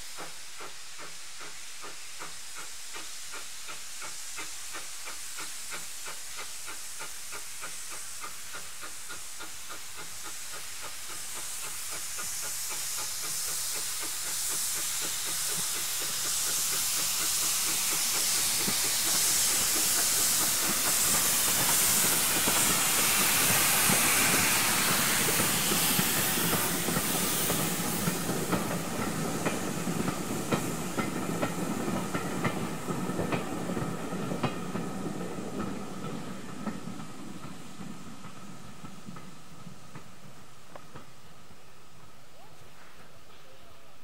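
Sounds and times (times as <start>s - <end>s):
train wheels clicking over rail joints: 0.0s - 42.2s
steam hissing: 0.0s - 44.0s.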